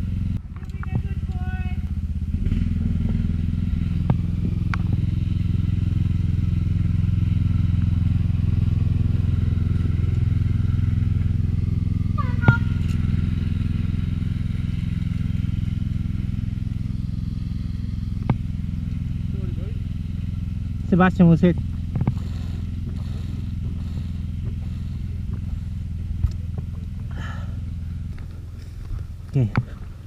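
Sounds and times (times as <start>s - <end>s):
low mechanical drone: 0.0s - 30.0s.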